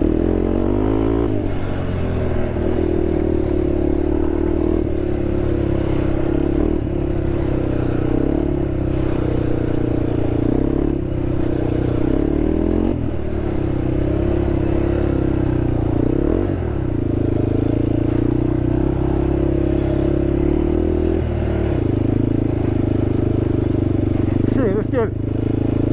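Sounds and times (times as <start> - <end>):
quad bike engine running: 0.0 - 25.9.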